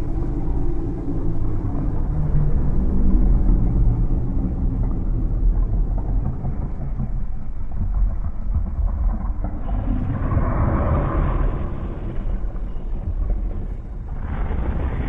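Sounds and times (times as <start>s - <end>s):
deep low rumble: 0.0s - 15.0s.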